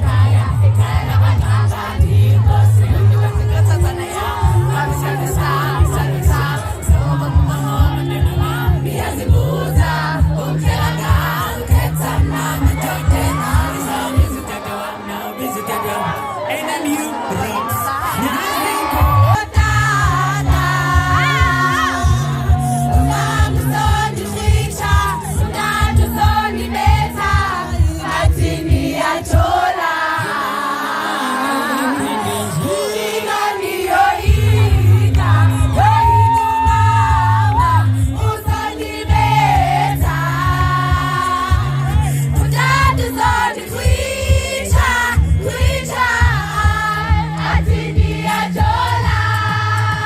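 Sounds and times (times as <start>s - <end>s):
low beat: 0.0s - 14.7s, 18.8s - 29.7s, 33.8s - 50.0s
sung bass line: 0.0s - 16.4s, 17.6s - 29.7s, 32.0s - 50.0s
vocal group singing in harmony: 0.0s - 50.0s.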